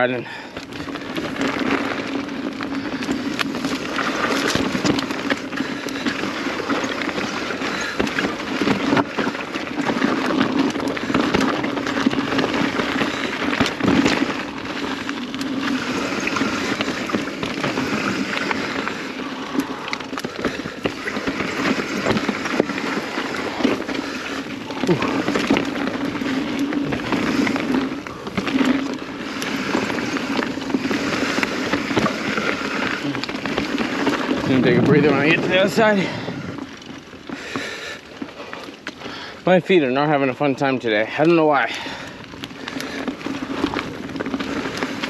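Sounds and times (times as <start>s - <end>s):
bike tyres rolling over dirt: 0.0s - 45.0s
bike knocks and rattles: 0.6s - 37.7s.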